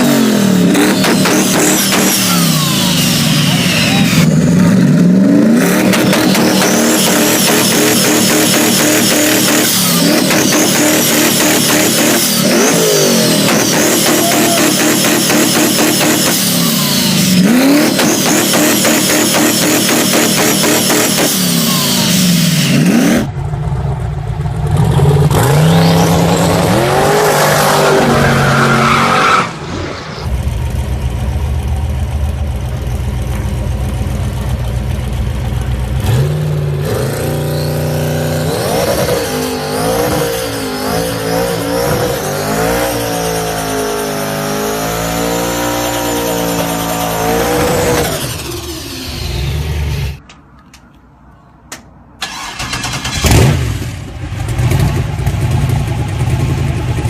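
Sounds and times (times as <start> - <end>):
turbocharged car engines revving: 0.0 - 50.4, 52.2 - 57.0.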